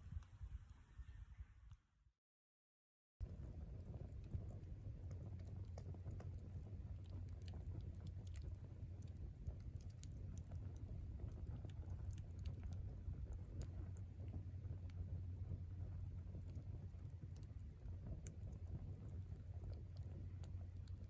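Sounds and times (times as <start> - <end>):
campfire crackling: 3.2 - 21.0
steady low rumble: 3.2 - 21.0.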